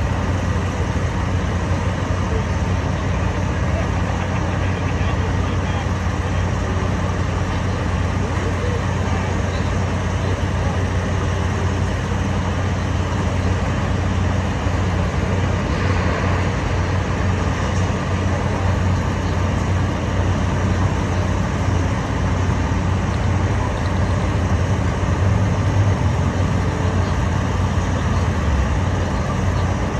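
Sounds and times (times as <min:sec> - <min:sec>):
diesel construction machinery running: 0:00.0 - 0:29.9.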